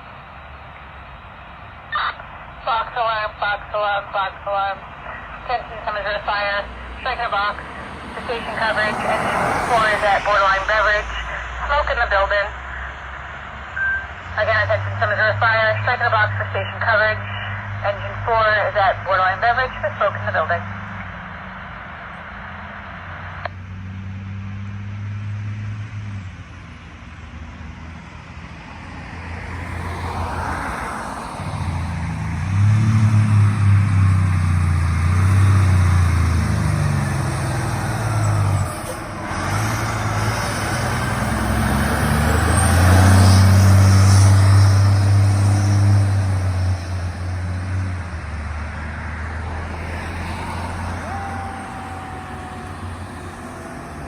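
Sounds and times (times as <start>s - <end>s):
fire truck diesel engine passing: 0.0s - 54.0s.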